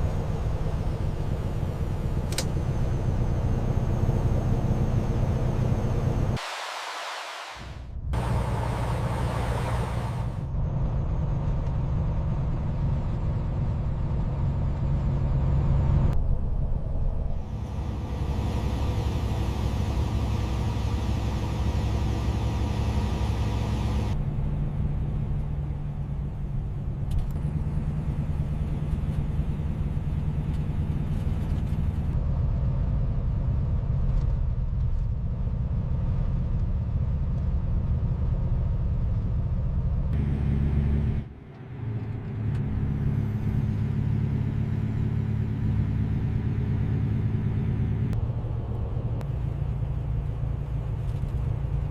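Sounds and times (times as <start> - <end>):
road noise: 0.0 - 51.9
truck engine rumble: 0.0 - 51.9.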